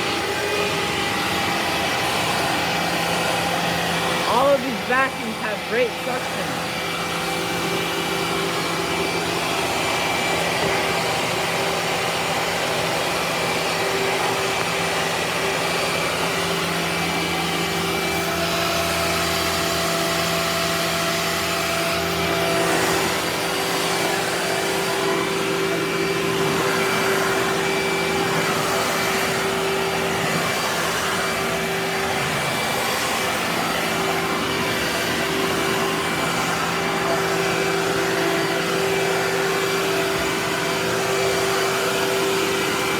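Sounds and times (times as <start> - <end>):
vacuum cleaner motor running: 0.0 - 42.9.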